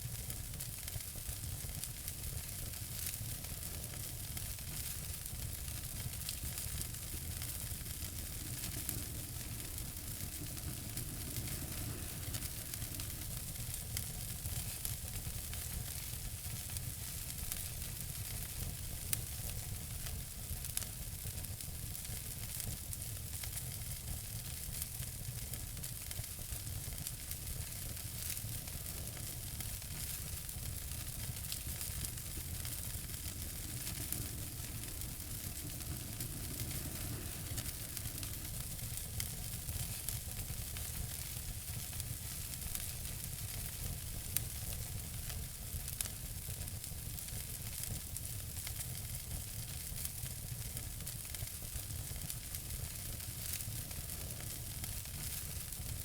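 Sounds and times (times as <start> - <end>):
fire crackling and popping: 0.0 - 56.0
wood fire hissing: 0.0 - 56.0.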